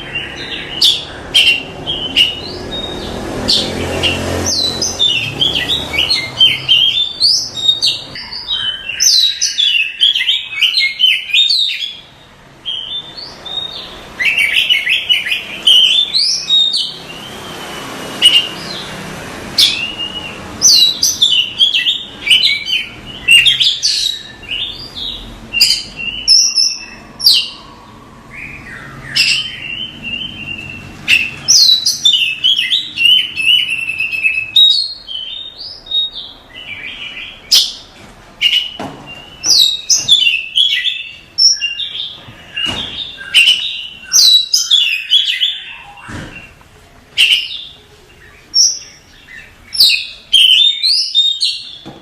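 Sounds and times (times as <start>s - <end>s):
bird singing varied song: 0.0s - 52.0s.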